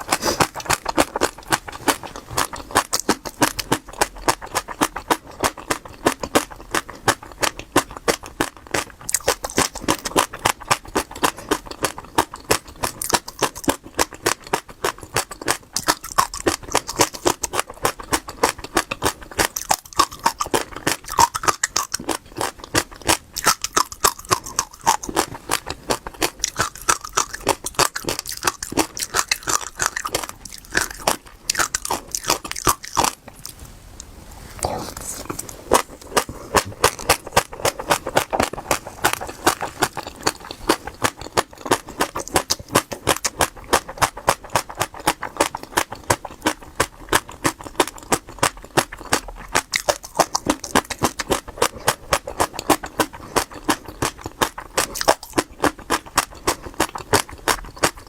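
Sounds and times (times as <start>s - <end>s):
seeds being chewed: 0.0s - 58.0s.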